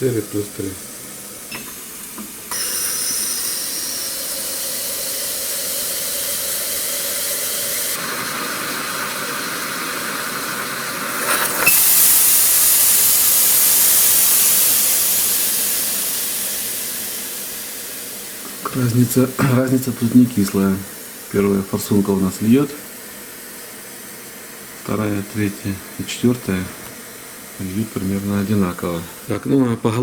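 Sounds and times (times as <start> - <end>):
fuel injectors spraying hiss: 0.0 - 30.0.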